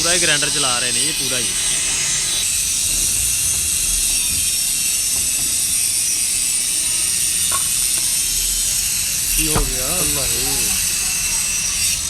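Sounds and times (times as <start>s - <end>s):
grinder running: 0.0s - 12.0s.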